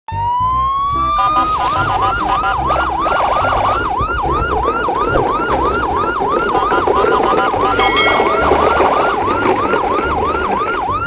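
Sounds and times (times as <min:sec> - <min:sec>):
siren wailing and yelping: 0:01.0 - 0:11.0.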